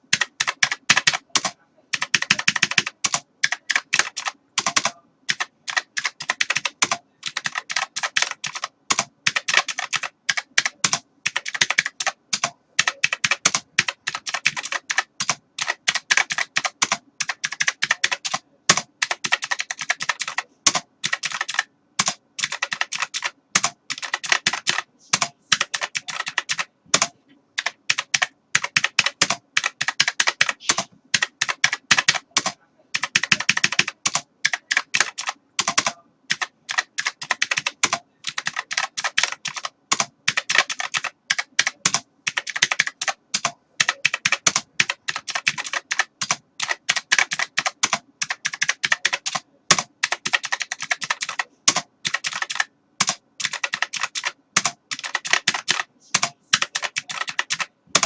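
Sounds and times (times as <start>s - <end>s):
computer keyboard typing: 0.0s - 58.0s.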